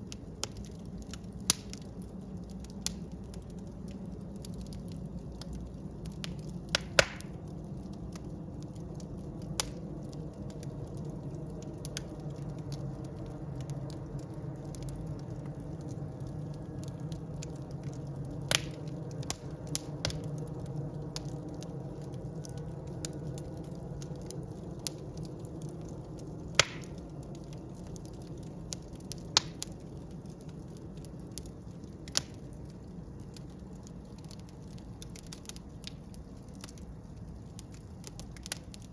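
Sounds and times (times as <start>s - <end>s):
fire crackling and popping: 0.0s - 38.9s
fire flames rumbling: 0.0s - 38.9s.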